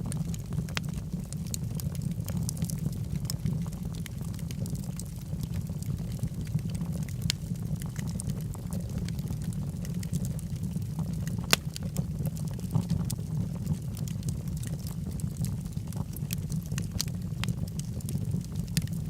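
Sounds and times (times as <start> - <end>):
fire crackling and popping: 0.0 - 19.0
flames rumbling: 0.0 - 19.0.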